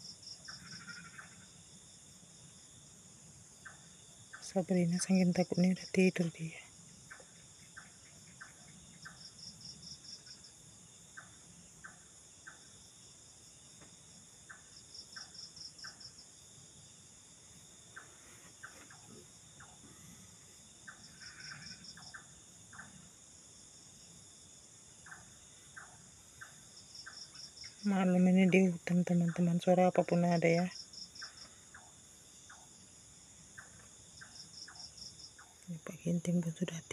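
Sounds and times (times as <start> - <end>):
crickets droning: 0.0 - 36.9
pulsed insect trill: 0.0 - 36.9
short insect chirps: 0.0 - 36.9.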